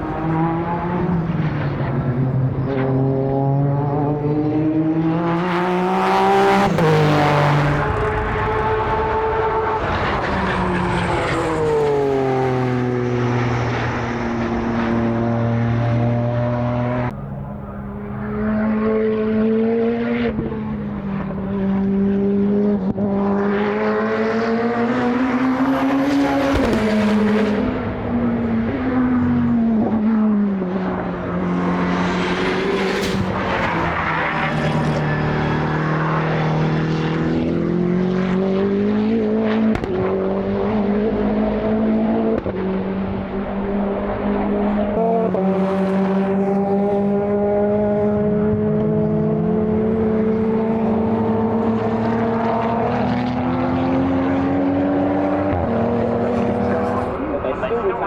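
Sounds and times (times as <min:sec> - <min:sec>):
race car engines accelerating: 0:00.0 - 0:58.0.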